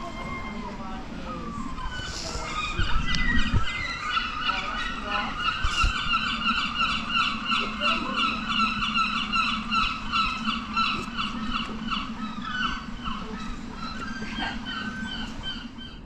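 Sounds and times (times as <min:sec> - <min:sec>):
birds honking: 0:00.0 - 0:16.0.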